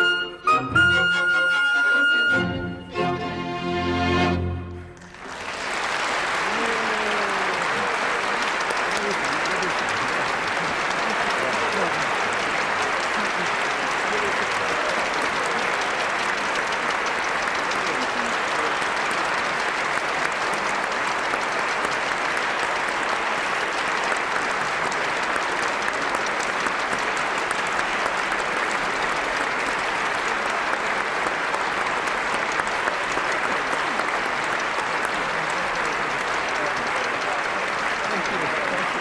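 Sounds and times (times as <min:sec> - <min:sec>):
audience applauding: 0:04.0 - 0:39.0.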